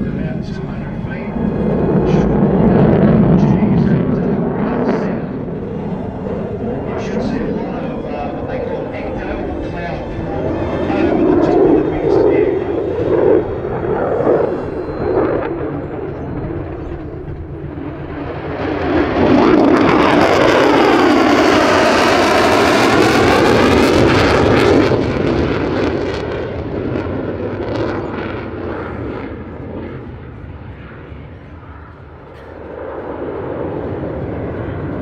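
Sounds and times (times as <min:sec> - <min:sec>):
jet flyby roar: 0:00.0 - 0:35.0.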